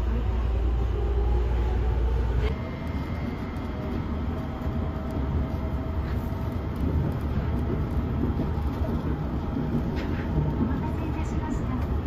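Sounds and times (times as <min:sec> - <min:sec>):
train rumble with wheel noise: 0:00.0 - 0:12.0.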